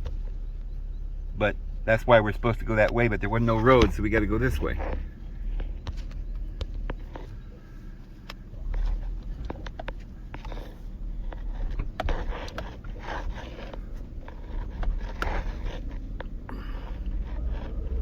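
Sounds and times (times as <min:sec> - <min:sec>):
engine and road rumble: 0:00.0 - 0:18.0
rattles inside bouncing vehicle: 0:00.0 - 0:18.0.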